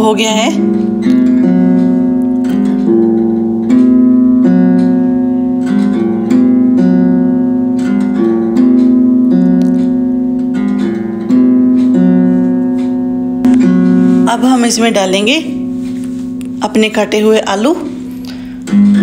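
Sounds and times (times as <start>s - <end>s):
strummed guitar chords: 0.0s - 19.0s.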